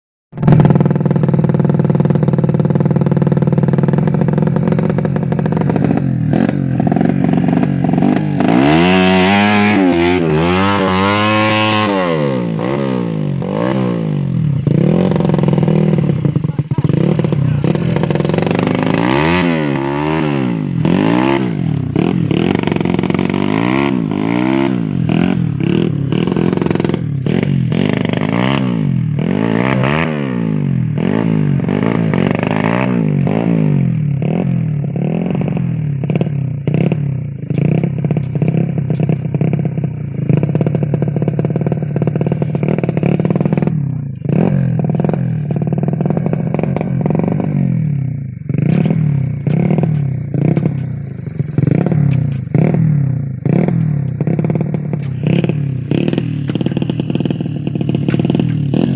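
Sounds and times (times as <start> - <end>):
motorcycle engine revving: 0.3 - 58.9.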